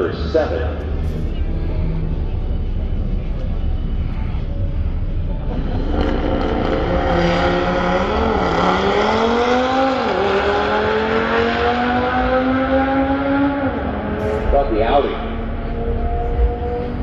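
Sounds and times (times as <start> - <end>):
drag car engine accelerating: 0.7 - 17.0.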